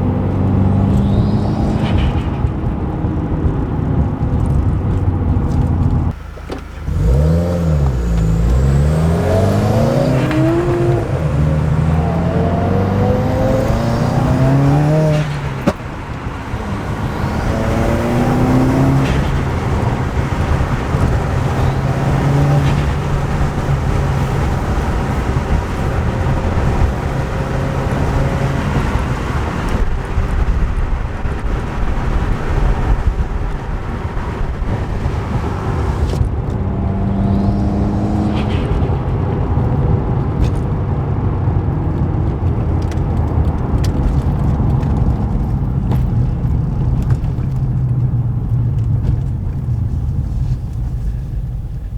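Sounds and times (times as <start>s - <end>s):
car engine pulling through gears: 0.0s - 51.9s.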